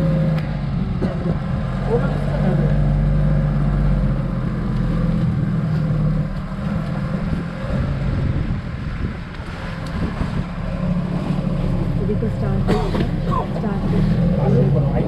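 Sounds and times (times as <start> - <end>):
boat engine drone: 0.0 - 15.0
water noise: 0.0 - 15.0.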